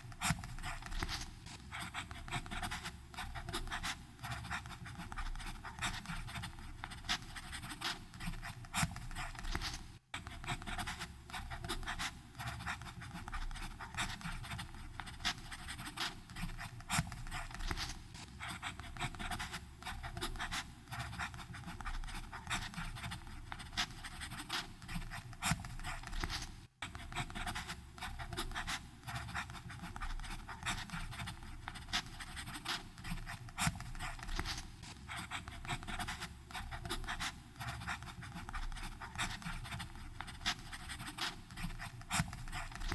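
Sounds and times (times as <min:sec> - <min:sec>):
pen nib scratching on paper: 0:00.0 - 0:42.9.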